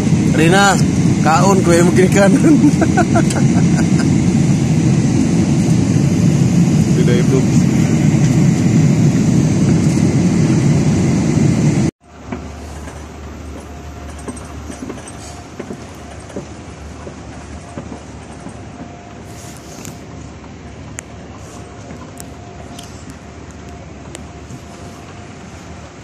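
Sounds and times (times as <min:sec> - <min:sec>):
airliner cabin rumble: 0:00.0 - 0:26.0
terminal ambience hum: 0:00.0 - 0:26.0.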